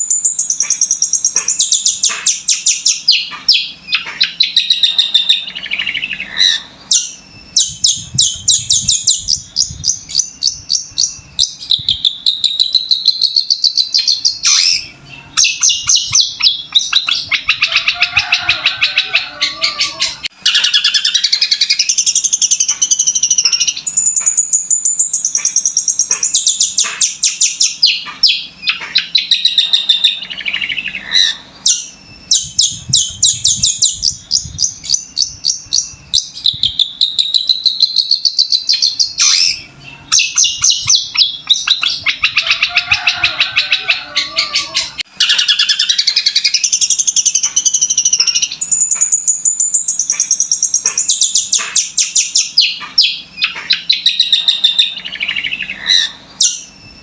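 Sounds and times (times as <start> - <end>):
bird singing high chirps and trills: 0.0 - 57.0.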